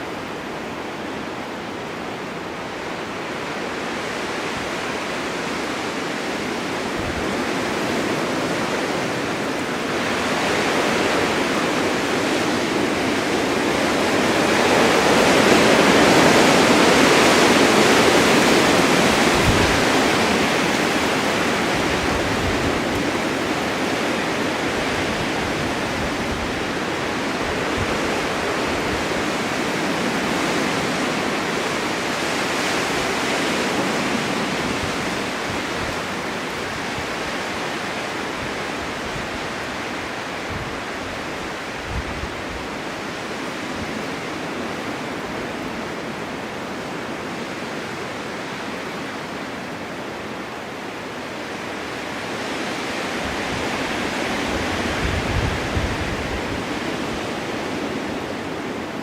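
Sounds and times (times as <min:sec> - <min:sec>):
blizzard wind gusting: 0:00.0 - 0:59.0.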